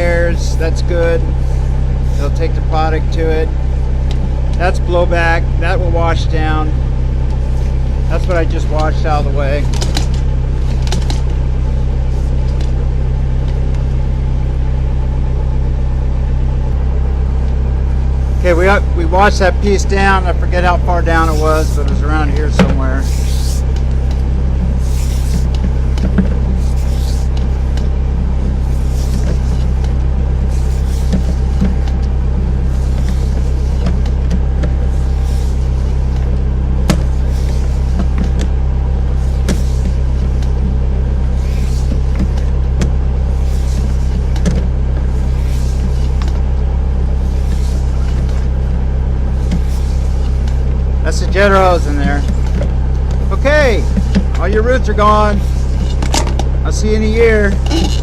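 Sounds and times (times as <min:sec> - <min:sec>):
jetter engine droning: 0:00.0 - 0:58.0.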